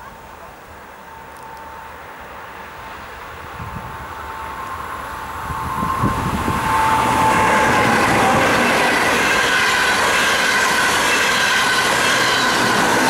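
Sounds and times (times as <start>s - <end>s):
rush of train wheels on rail: 0.0s - 13.0s
train whine: 0.0s - 13.0s.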